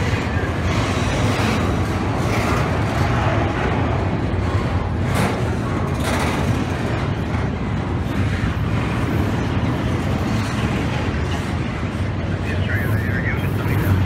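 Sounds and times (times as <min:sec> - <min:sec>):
freight train wheels rumbling on rail: 0:00.0 - 0:14.0
sharp train clacks: 0:00.0 - 0:14.0.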